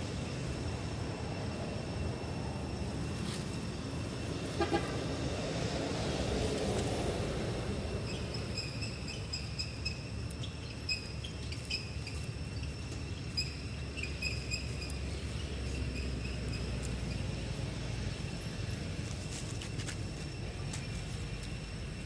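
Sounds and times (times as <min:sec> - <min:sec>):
distant road traffic: 0:00.0 - 0:22.0.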